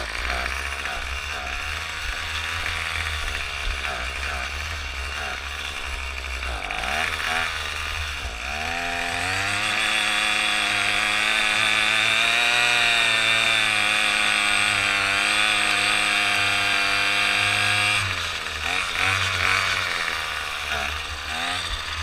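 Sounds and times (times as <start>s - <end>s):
small gasoline engine running: 0.0s - 22.0s.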